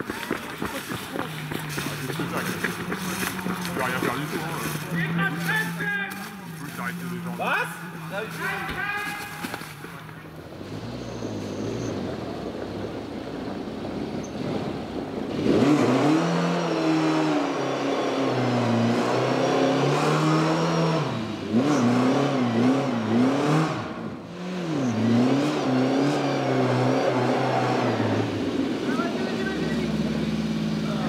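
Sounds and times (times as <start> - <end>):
rally car engine revving: 0.0 - 8.8, 9.4 - 31.0.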